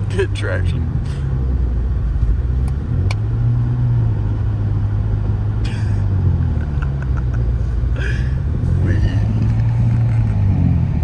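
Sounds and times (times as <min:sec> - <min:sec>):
car engine under throttle: 0:00.0 - 0:11.0.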